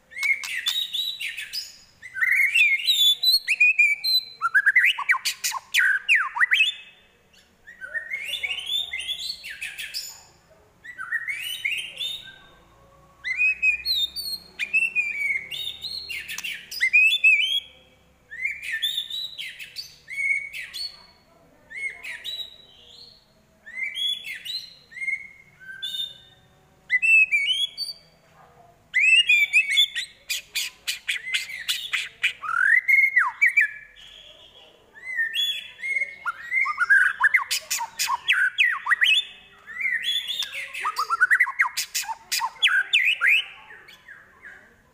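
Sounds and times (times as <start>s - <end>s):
bird singing whistled phrases: 0.1s - 7.0s, 7.6s - 10.1s, 10.8s - 12.5s, 13.2s - 17.7s, 18.3s - 20.9s, 21.7s - 28.1s, 28.9s - 44.3s.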